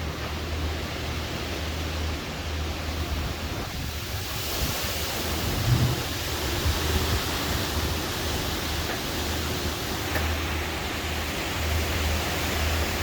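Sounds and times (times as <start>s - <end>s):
gusts buffeting microphone: 0.0s - 13.0s
wind and rain rushing: 0.0s - 13.0s.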